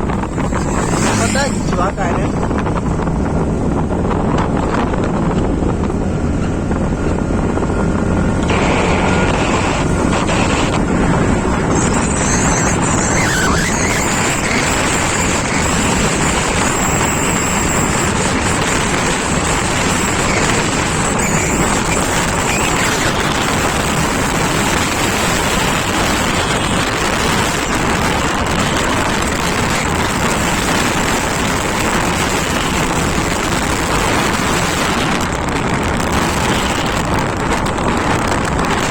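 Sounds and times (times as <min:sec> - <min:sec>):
scooter running: 0:00.0 - 0:03.4, 0:05.2 - 0:38.9
wind buffeting microphone: 0:00.0 - 0:38.9.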